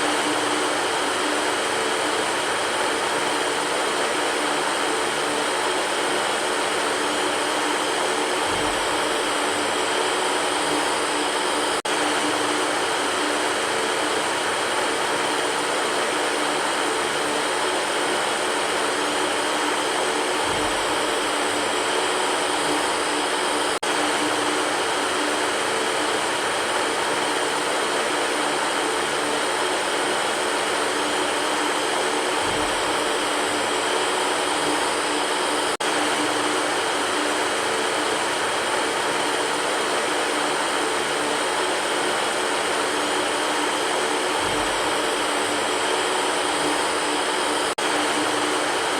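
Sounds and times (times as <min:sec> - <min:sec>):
electric fan running: 0:00.0 - 0:48.9.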